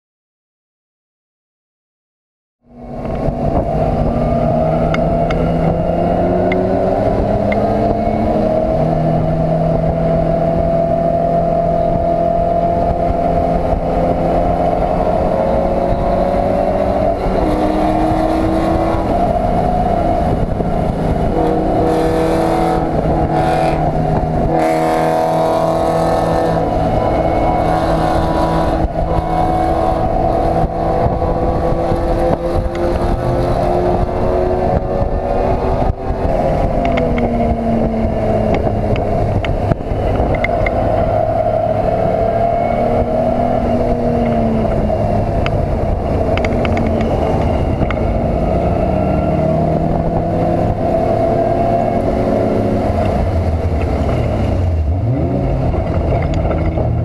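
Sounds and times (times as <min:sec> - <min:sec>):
race car engine revving: 0:02.6 - 0:57.0.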